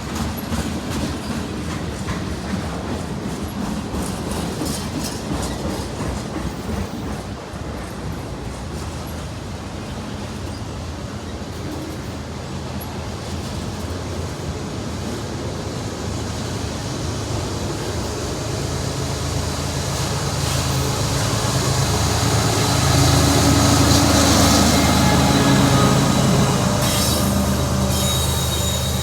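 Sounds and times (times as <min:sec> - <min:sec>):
diesel locomotive engine drone: 0:00.0 - 0:29.0
freight train rolling by: 0:00.0 - 0:29.0.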